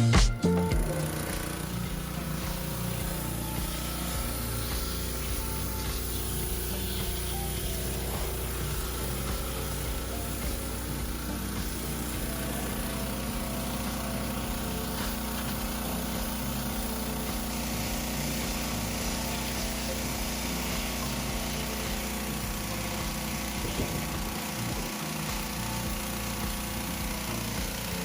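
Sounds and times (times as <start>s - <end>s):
pressure washer engine droning: 0.0s - 28.0s.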